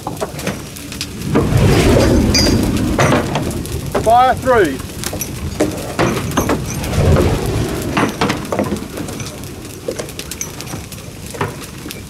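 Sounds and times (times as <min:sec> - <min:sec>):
sharp clicks and crackles: 0:00.0 - 0:12.0
wooden timbers knocking and clattering: 0:00.0 - 0:12.0.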